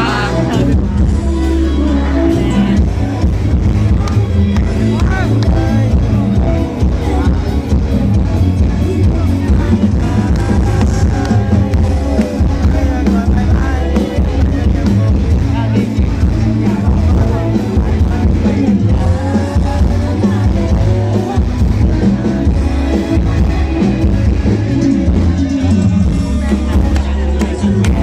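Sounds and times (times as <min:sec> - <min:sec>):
live band music with heavy bass: 0:00.0 - 0:28.0.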